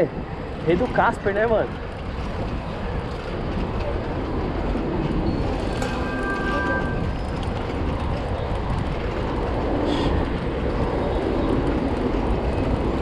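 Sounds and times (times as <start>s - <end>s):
city traffic: 0.0s - 13.0s
wind on microphone: 1.8s - 13.0s.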